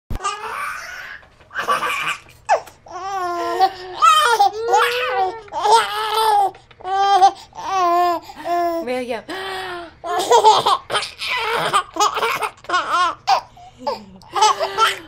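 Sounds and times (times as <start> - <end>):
baby laughing: 0.2 - 8.6, 10.0 - 15.0.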